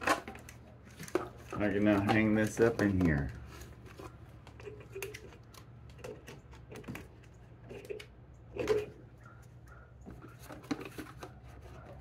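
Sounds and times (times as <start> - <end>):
plastic pan clicking and scraping: 0.0 - 12.0.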